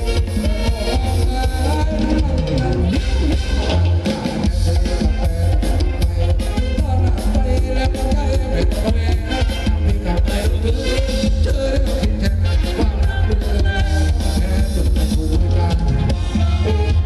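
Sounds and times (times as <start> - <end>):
heavy bass beat: 0.0 - 17.0
live band playing dance music: 0.0 - 17.0.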